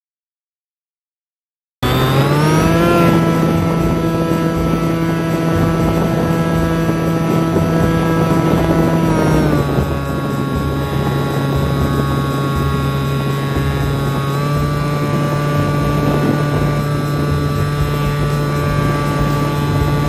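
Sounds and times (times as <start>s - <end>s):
electric propeller motor whine: 1.8s - 20.0s
wind rumble on microphone: 1.8s - 20.0s.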